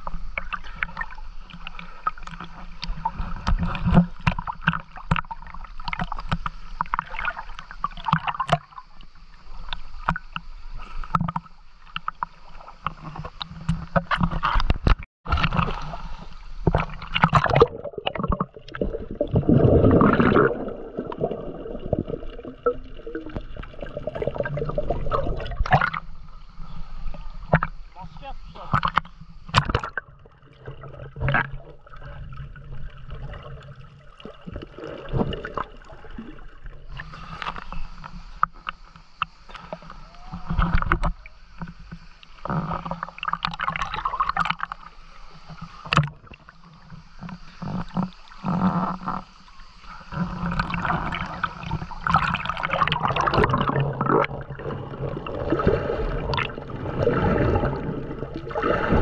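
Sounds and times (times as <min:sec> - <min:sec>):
sea water splashing and gurgling: 0:00.0 - 0:59.0.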